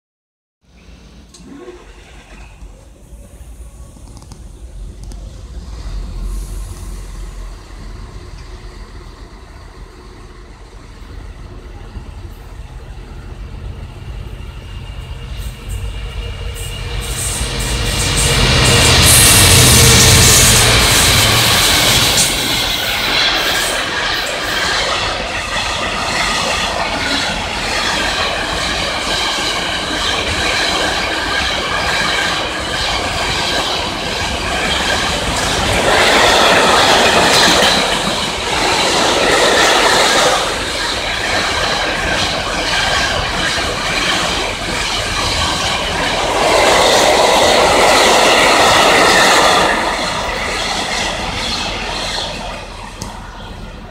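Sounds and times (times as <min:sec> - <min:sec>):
train wheels rumbling on rail: 0:00.6 - 0:53.9.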